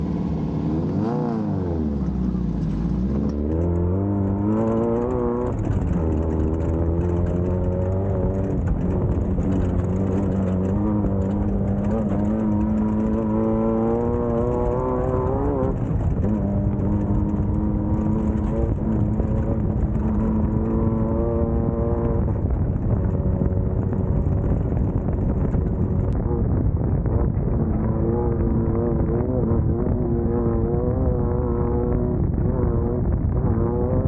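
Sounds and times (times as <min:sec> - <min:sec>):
race buggy engine revving: 0:00.0 - 0:34.0.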